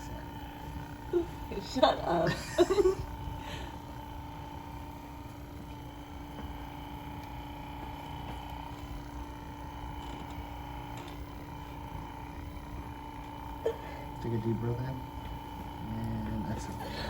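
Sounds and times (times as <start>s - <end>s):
massage gun motor whine: 0.0s - 17.0s.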